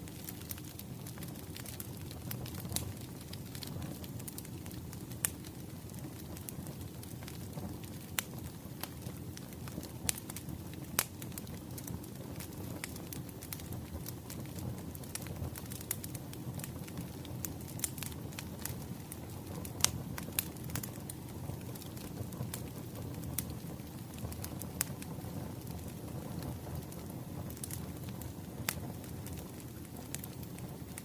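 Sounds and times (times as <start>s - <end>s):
fire popping and snapping: 0.0s - 31.0s
wood fire rumbling: 0.0s - 31.0s.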